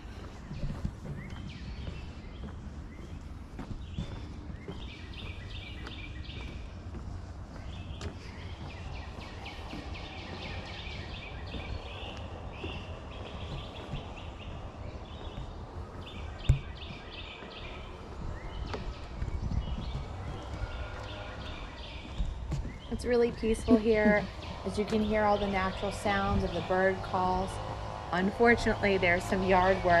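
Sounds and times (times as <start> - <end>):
birds singing: 0.0 - 30.0
distant lawnmower hum: 0.0 - 30.0.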